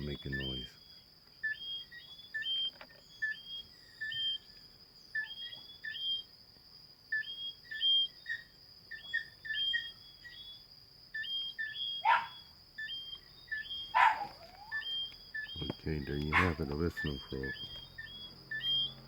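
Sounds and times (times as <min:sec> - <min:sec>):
whistling frogs calling: 0:00.0 - 0:19.0.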